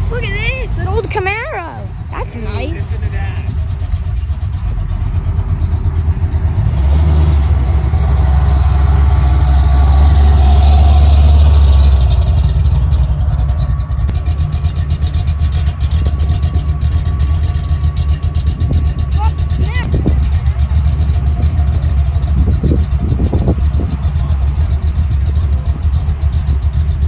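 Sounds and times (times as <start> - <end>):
car engine rumble driving past: 0.0 - 27.0.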